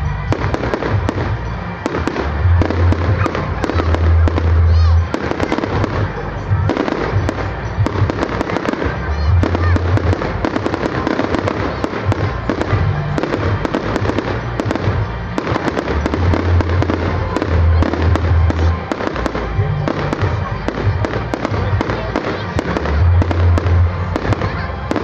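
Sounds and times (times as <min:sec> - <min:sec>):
firework shells bursting and crackling: 0:00.0 - 0:25.0
music with steady bass line: 0:00.0 - 0:25.0.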